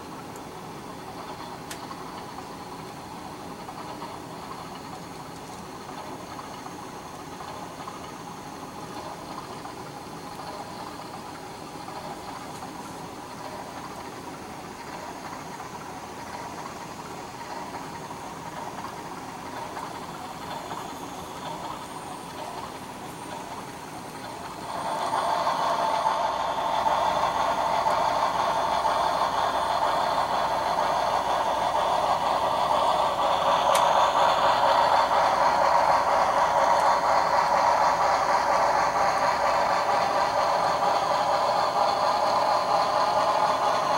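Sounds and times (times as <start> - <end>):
model steam engine sounds: 0.0 - 43.9.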